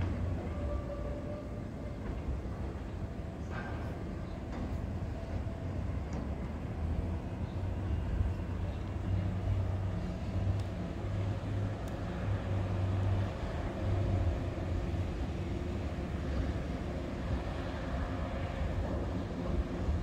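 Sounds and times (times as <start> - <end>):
outdoor rumble: 0.0 - 20.0
train engine hum: 0.0 - 20.0.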